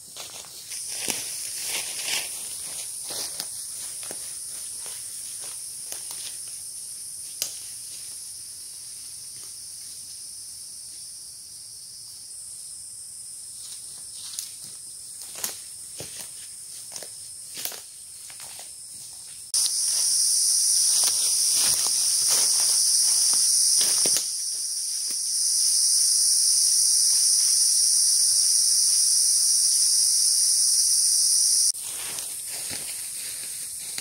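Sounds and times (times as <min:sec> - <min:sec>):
cicadas droning: 0:00.0 - 0:34.0.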